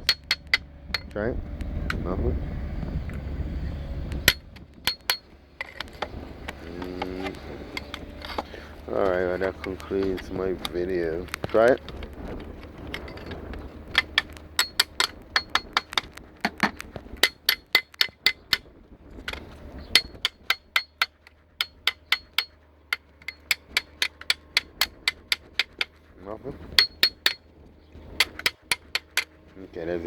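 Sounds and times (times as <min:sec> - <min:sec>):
sharp metallic clicks and taps: 0:00.0 - 0:02.0, 0:04.1 - 0:26.1, 0:26.7 - 0:27.4, 0:28.1 - 0:29.6.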